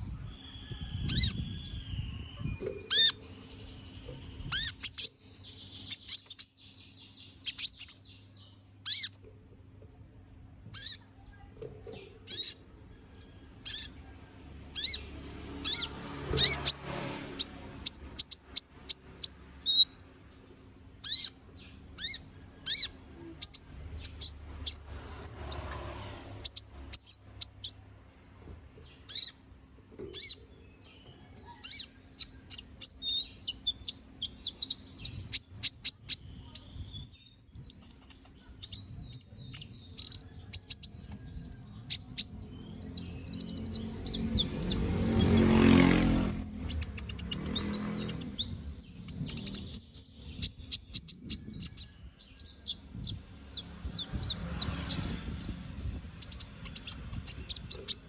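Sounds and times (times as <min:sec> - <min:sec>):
sunbird chirping and trilling: 0:00.0 - 0:09.4, 0:10.6 - 0:28.1, 0:28.7 - 0:58.0.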